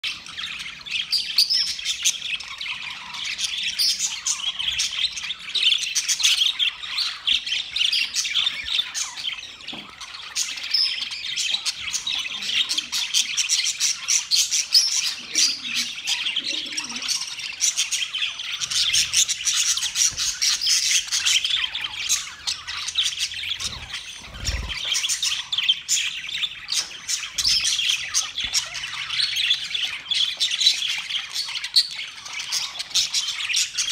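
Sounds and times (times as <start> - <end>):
budgerigars chirping and chattering: 0.0 - 33.9.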